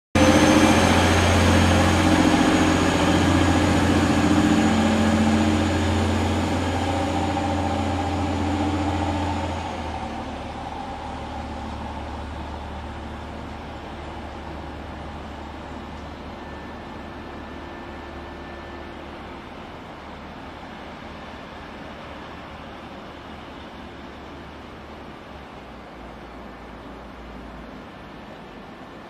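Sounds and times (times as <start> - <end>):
low steady rumble: 0.2 - 28.7
train engines whining: 0.2 - 29.0.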